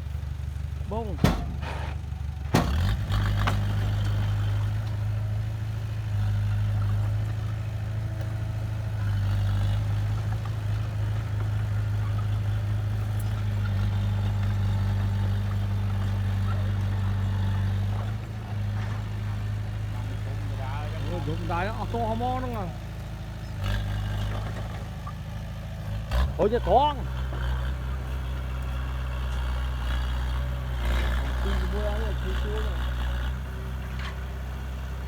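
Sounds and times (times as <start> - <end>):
diesel engine running steadily: 0.0 - 35.0.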